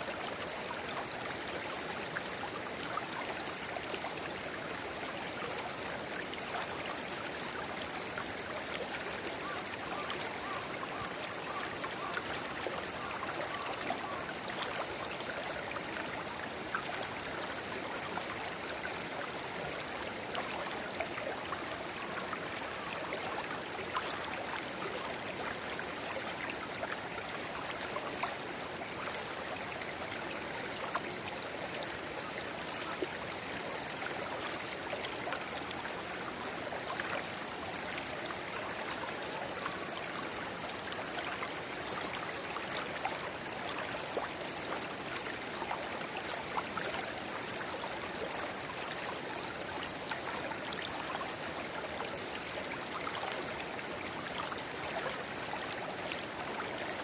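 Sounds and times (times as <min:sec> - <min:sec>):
river babbling: 0:00.1 - 0:57.0.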